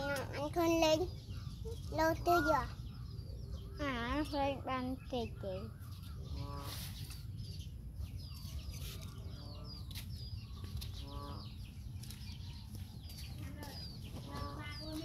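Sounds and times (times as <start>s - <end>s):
birds chirping: 0.0s - 15.0s
steady low rumble: 0.2s - 15.0s.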